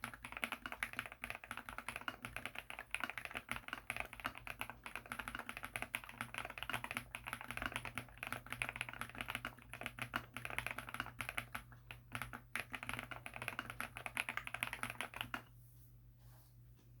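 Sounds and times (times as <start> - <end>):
mechanical keyboard typing: 0.0 - 15.5.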